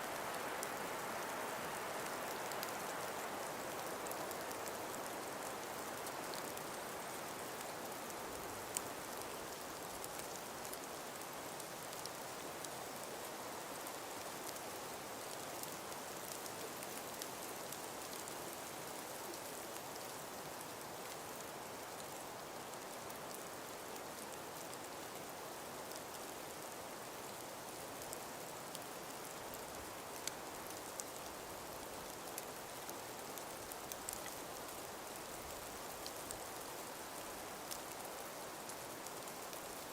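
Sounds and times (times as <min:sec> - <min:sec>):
breeze through forest: 0:00.0 - 0:39.9
faint ticks and clicks: 0:00.1 - 0:39.9.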